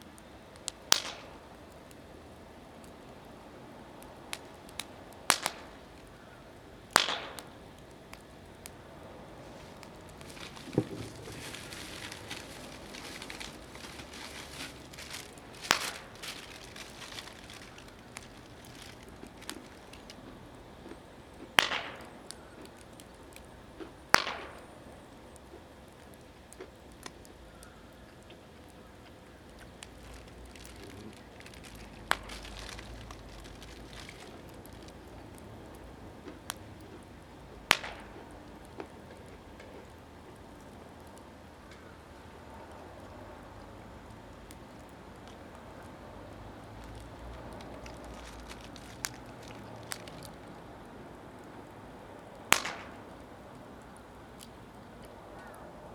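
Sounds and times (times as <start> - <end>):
fire popping: 0.0 - 55.9
wood fire crackling: 0.0 - 55.9.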